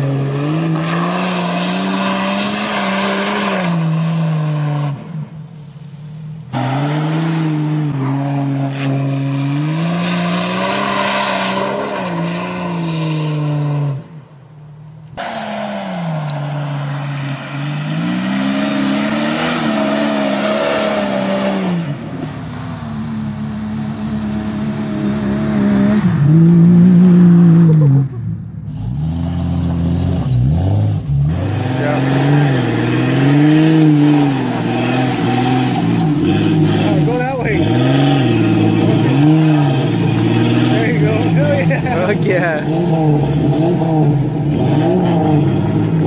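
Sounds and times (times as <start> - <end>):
engines revving under load: 6.4 - 14.2, 15.1 - 46.0.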